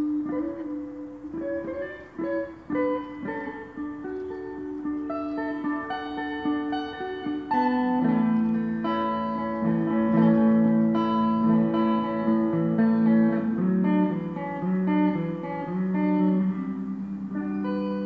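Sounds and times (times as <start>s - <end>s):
slow guitar jam: 0.0s - 18.0s.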